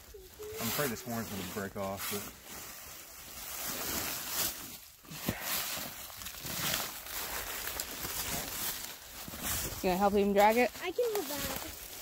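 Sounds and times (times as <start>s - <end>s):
footsteps in dry leaves: 0.0s - 12.0s.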